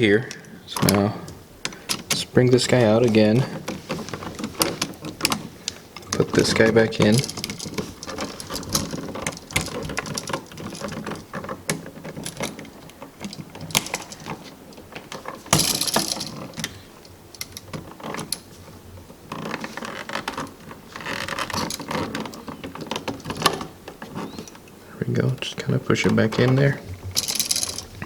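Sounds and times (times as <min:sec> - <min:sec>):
wires scraping in switch box: 0:00.7 - 0:28.0.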